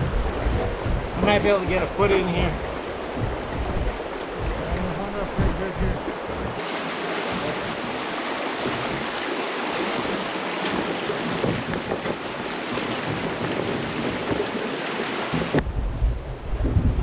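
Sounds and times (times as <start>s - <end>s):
creek rapids rushing over rocks: 0.0s - 15.6s.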